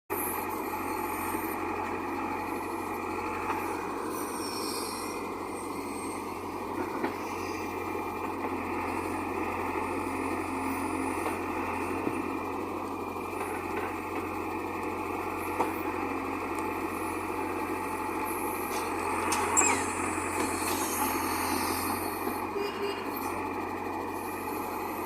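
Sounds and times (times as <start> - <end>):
diesel engine running: 0.1 - 25.0.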